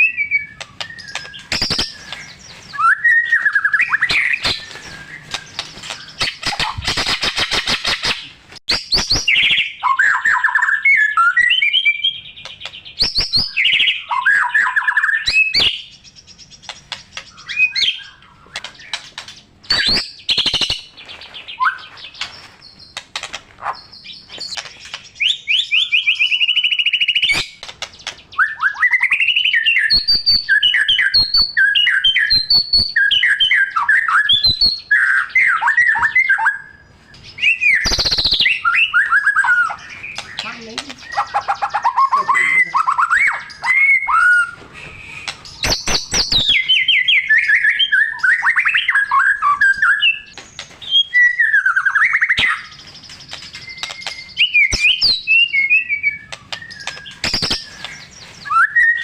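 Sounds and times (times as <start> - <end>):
bird singing whistles and trills: 0.0 - 23.0, 23.6 - 59.0.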